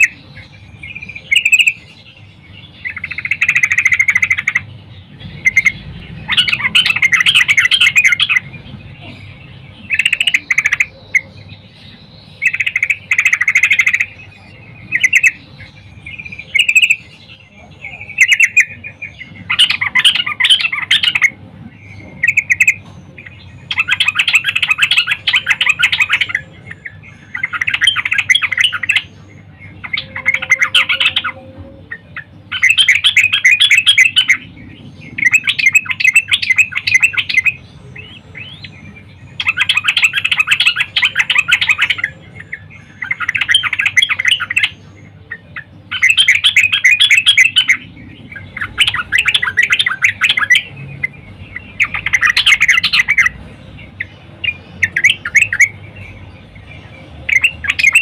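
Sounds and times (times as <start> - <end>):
bird chattering calls: 0.0 - 58.0.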